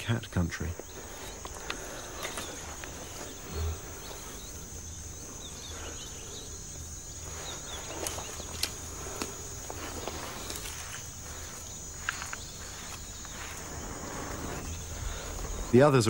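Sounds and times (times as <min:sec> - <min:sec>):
insect trill: 0:00.0 - 0:16.0.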